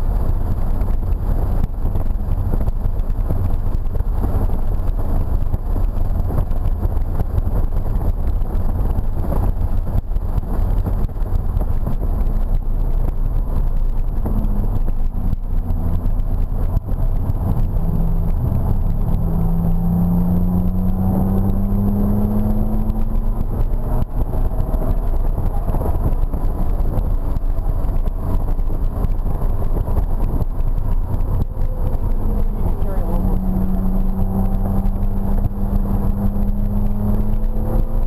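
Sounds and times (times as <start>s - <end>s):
car engine accelerating: 0.0s - 38.0s
low road noise: 0.0s - 38.0s.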